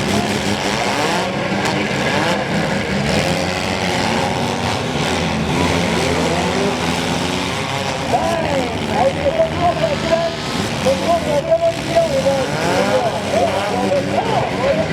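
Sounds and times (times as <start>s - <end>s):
car engines revving: 0.0s - 14.9s.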